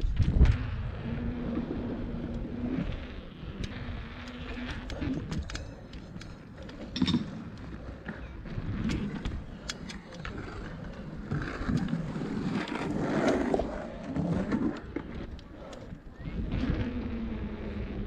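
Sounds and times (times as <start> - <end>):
bike clicks and rattles: 0.0 - 18.0
bike tyres rolling on concrete: 0.0 - 18.0.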